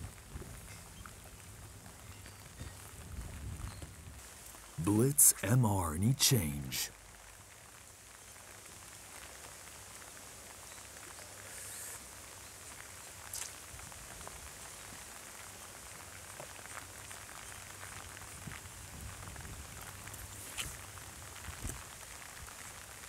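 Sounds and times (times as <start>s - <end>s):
rain falling on river: 0.0s - 4.8s, 5.5s - 23.0s.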